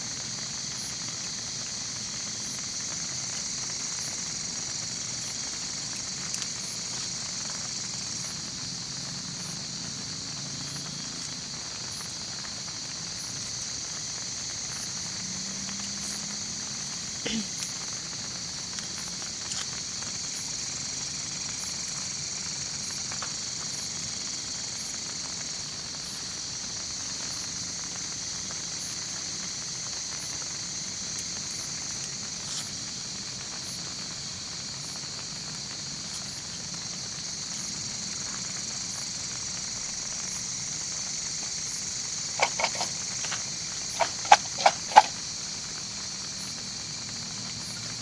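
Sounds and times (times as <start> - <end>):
night insects chorus: 0.0 - 48.0.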